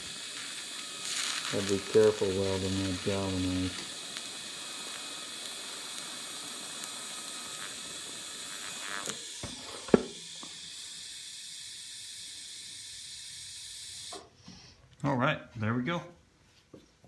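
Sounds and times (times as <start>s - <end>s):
welding arc sizzling and crackling: 0.0s - 14.4s
faint hiss: 0.0s - 14.8s.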